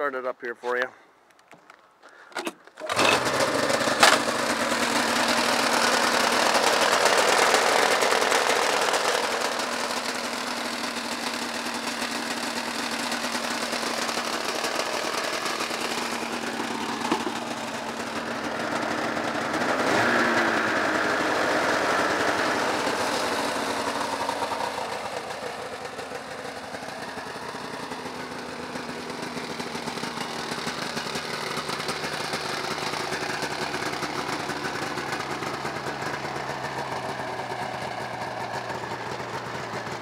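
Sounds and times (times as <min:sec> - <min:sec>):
snowmobile engine starting and idling: 0:02.1 - 0:40.0.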